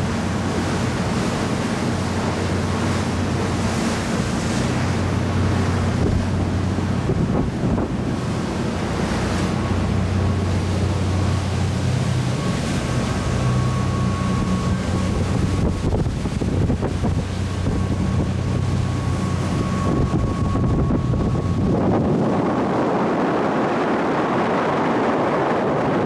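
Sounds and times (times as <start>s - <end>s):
rushing water: 0.0s - 26.0s
ship engine drone: 0.0s - 26.0s
wind buffeting microphone: 0.0s - 26.0s.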